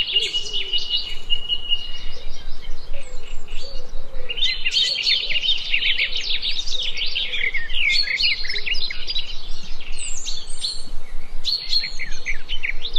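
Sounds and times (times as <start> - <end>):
songbirds singing and chirping: 0.0 - 12.9.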